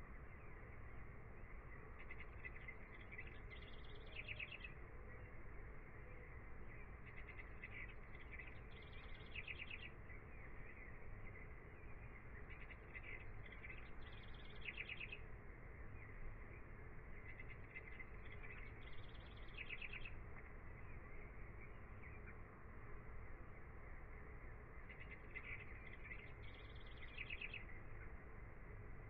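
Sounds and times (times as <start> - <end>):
bird chirping: 0.0 - 29.0
low steady hiss: 0.0 - 29.0.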